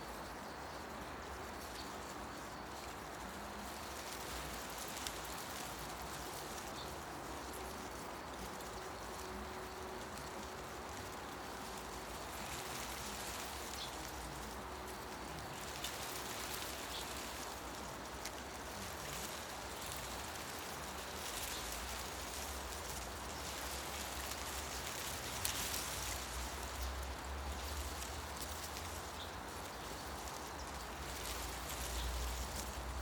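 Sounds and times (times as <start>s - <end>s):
wind rustling tree leaves: 0.0s - 33.0s.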